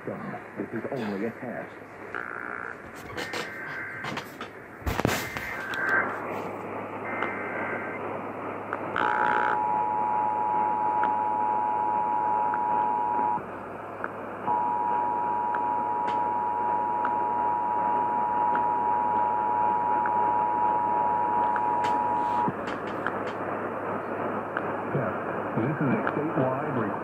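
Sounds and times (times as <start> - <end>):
radio static hiss and hum: 0.0 - 27.0.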